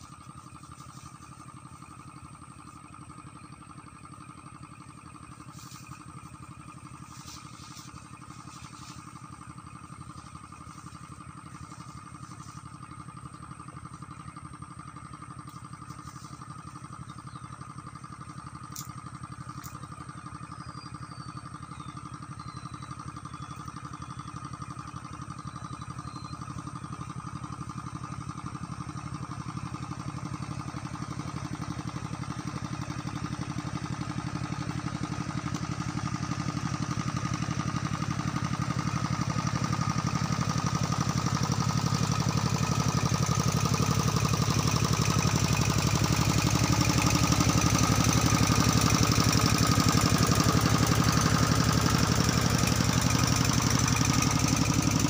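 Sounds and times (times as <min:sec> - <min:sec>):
engine running with fast pulse: 0:00.0 - 0:55.0.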